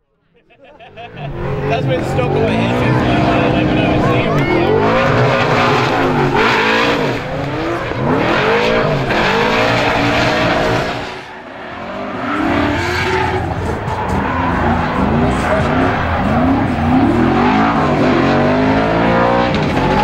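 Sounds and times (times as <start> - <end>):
car engine revving: 1.0 - 20.0.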